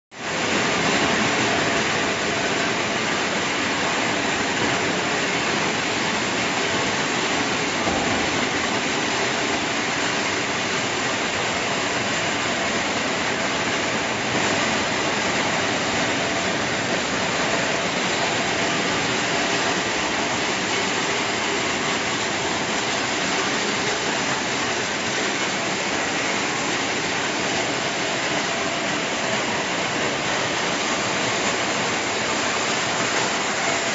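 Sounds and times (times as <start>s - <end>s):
shredding machine and conveyor: 0.2s - 33.9s.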